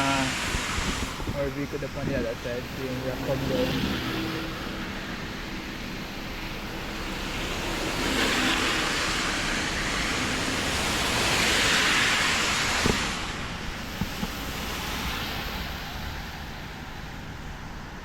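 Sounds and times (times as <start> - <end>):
vehicles passing on wet road: 0.0 - 18.0
wind and rain: 0.0 - 18.0.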